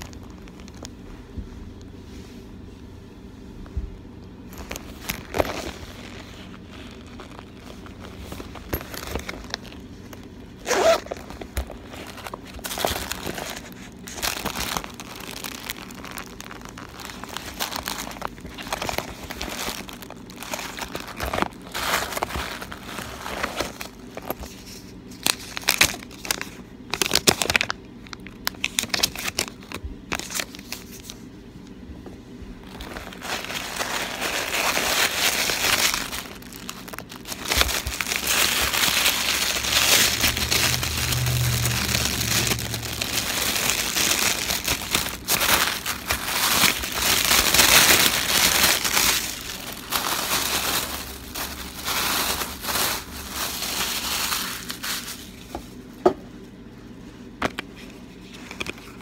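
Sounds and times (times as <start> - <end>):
packaging crinkling and rustling: 0.0 - 2.0, 4.5 - 31.3, 32.5 - 55.8, 57.4 - 59.0.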